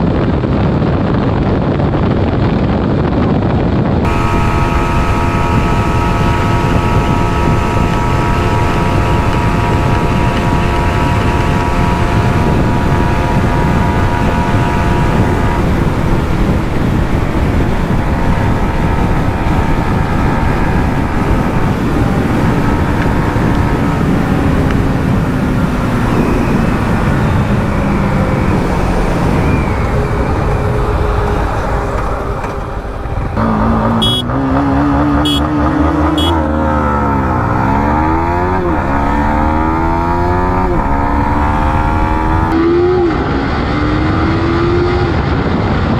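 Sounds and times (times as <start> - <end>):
wind rush: 0.0 - 45.9
motorcycle engine at high revs: 4.0 - 45.9.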